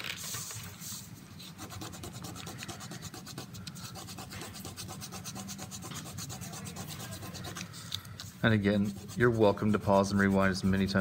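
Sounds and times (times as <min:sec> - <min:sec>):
rubbing over paper: 0:00.1 - 0:11.0.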